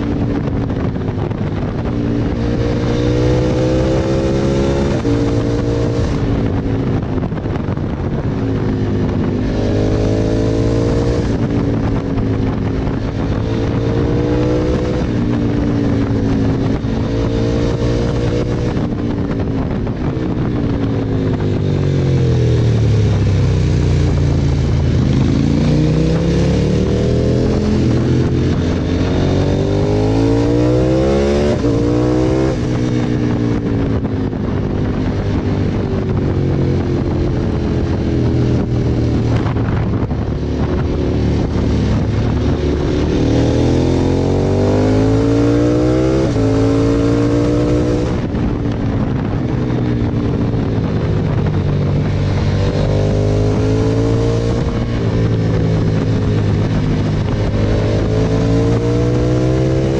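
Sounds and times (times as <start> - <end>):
motorcycle engine revving and shifting: 0.0 - 59.9.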